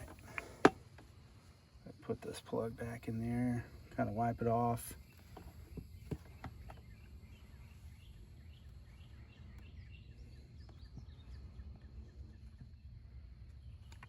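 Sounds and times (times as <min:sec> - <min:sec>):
bird chirping: 0:02.2 - 0:14.0.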